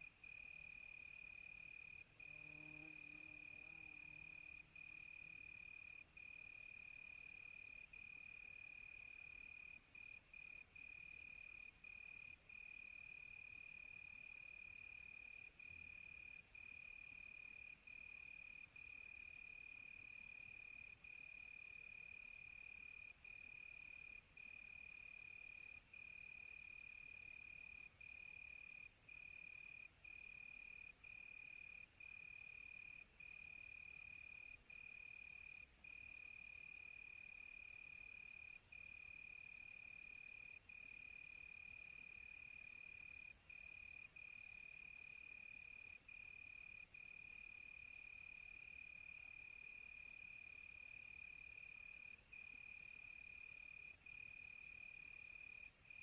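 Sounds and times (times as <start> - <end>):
faint hiss of insects: 0.0 - 56.0.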